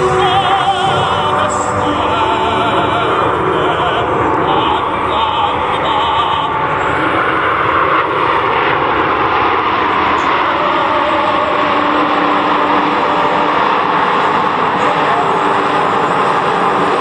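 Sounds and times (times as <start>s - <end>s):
loud jet engine noise: 0.0s - 17.0s.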